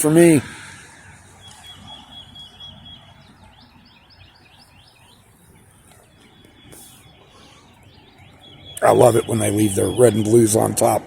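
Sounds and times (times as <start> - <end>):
outdoor background noise: 0.0 - 11.0
small bird chirping: 1.4 - 10.4.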